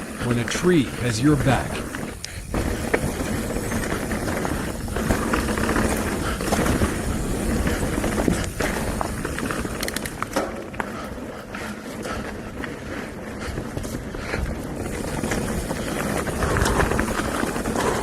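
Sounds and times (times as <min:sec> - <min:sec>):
bike clicking and rattling: 0:00.0 - 0:18.0
bike tyres rumbling on dirt: 0:00.0 - 0:18.0.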